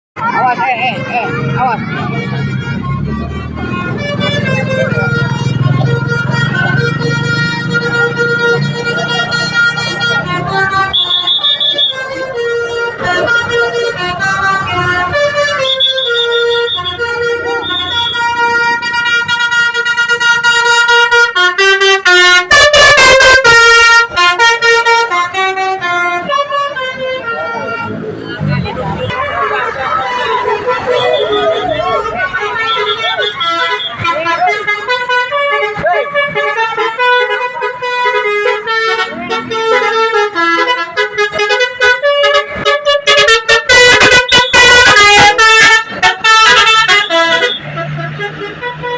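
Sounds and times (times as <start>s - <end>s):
musical bus air horn: 0.2s - 48.9s.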